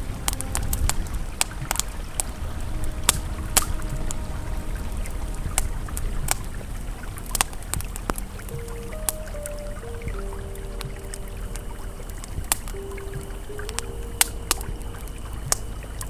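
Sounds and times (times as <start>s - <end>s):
ambient music: 0.0s - 16.0s
campfire crackling and popping: 0.0s - 16.0s
flowing river: 0.0s - 16.0s.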